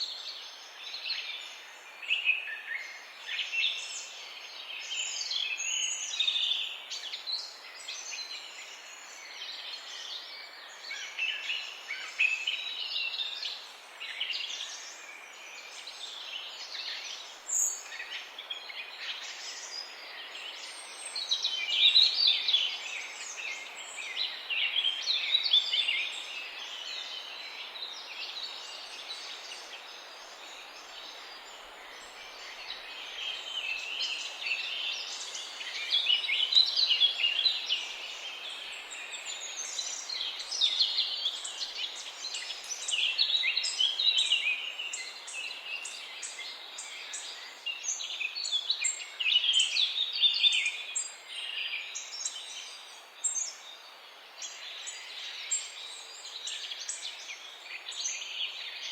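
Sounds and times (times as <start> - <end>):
songbirds chirping and trilling: 0.0 - 58.9
steady background hiss: 0.0 - 58.9.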